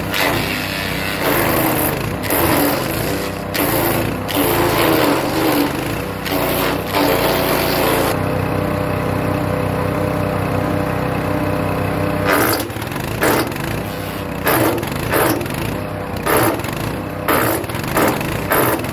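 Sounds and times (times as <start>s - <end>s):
wood chipper engine: 0.0s - 18.9s.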